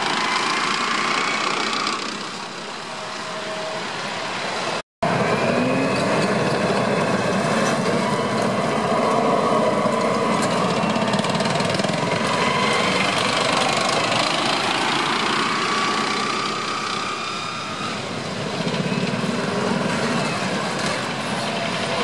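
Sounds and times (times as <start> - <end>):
turbine engine whine: 0.0 - 22.0.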